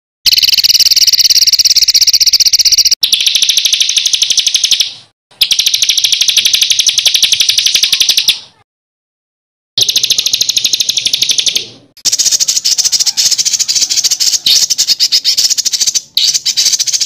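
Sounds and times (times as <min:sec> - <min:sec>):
songbird rolling trill: 0:00.3 - 0:08.3, 0:09.8 - 0:17.0.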